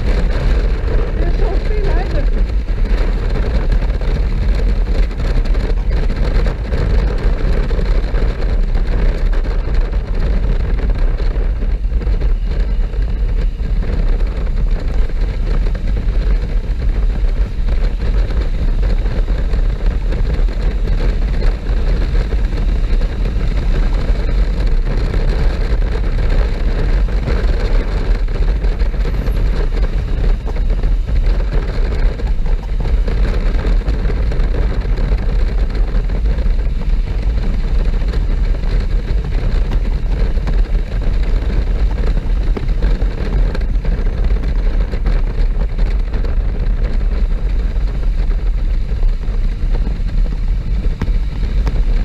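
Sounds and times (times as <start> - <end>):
motorcycle engine running: 0.0 - 52.0
wind rush on microphone: 0.0 - 52.0.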